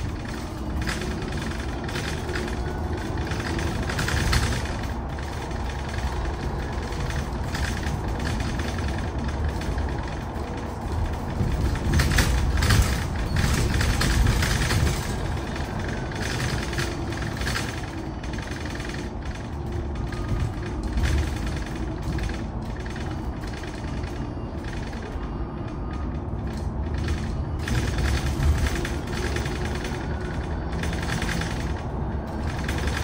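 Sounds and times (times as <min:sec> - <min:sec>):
rattles and knocks: 0:00.0 - 0:33.0
road and tyre rumble: 0:00.0 - 0:33.0.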